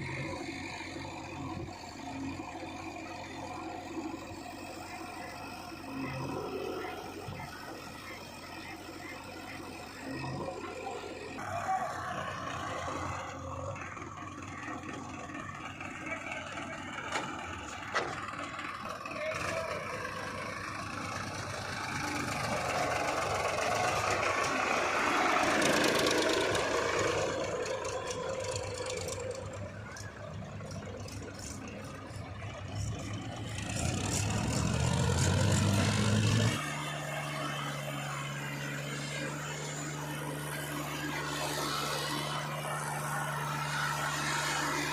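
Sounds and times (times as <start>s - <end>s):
diesel engine working under load: 0.0s - 44.9s.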